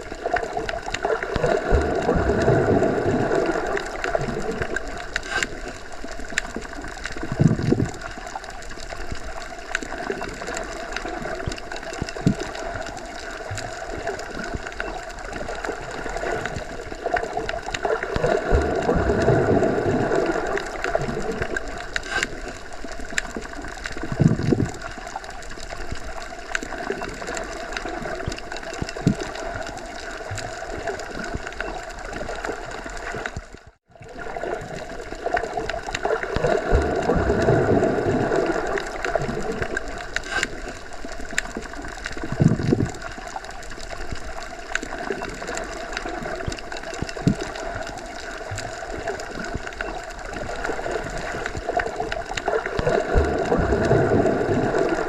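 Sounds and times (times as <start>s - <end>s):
low gurgling: 0.0s - 55.0s
muffled underwater rush: 0.0s - 55.0s.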